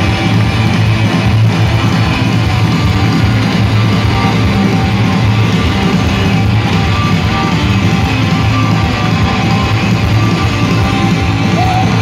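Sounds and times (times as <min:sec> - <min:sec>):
electric guitar: 0:00.0 - 0:12.0
rock band playing live: 0:00.0 - 0:12.0.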